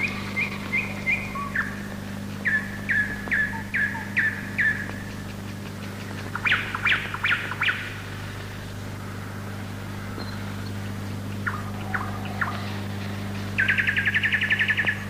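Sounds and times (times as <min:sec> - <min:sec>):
bird chirping: 0:00.0 - 0:08.7, 0:09.3 - 0:15.0
steady low hum: 0:00.0 - 0:15.0.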